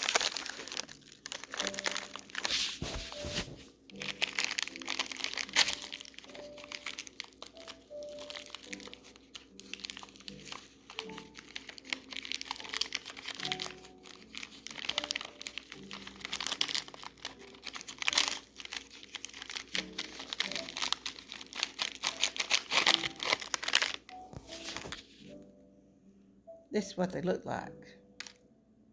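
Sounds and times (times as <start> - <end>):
plastic wrapper crinkling: 0.0 - 25.4, 28.2 - 28.5
soft background music: 0.0 - 28.9.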